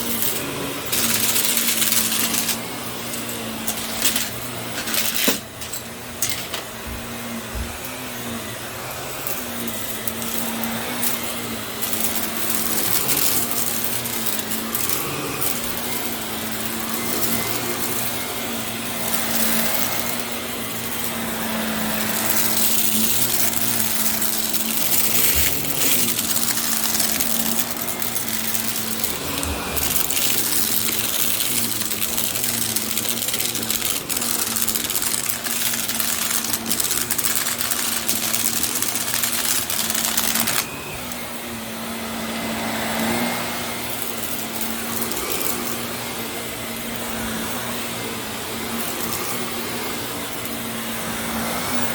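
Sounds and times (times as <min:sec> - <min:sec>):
vacuum clicks and knocks on floor: 0:00.0 - 0:51.6
vacuum cleaner running: 0:00.0 - 0:51.9.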